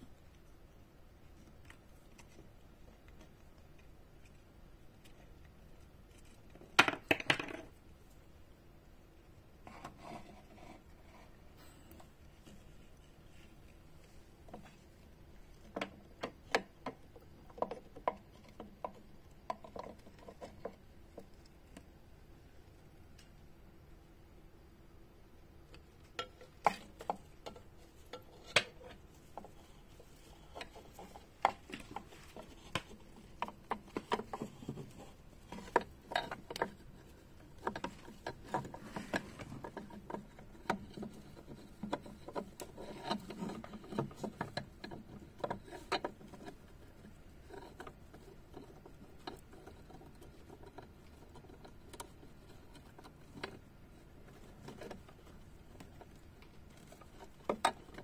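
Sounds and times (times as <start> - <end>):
hamster gnawing on wood: 0.0 - 7.2, 9.6 - 23.4, 25.6 - 58.0.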